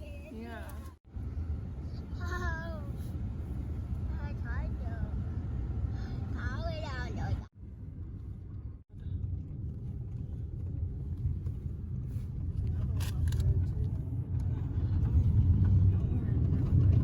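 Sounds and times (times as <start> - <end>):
car rumbling on road: 0.0 - 17.0.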